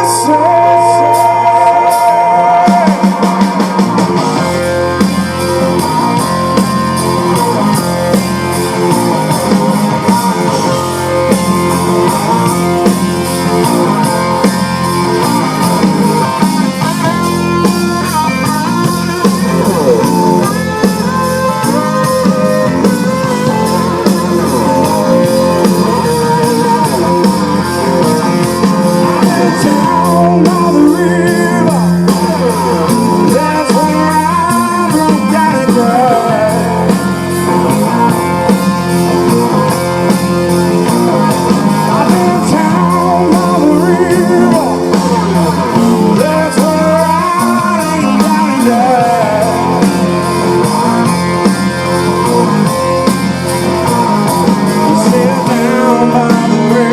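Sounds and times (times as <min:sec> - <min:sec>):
blues-rock band playing: 0:00.0 - 0:56.9
lead electric guitar: 0:00.0 - 0:56.9.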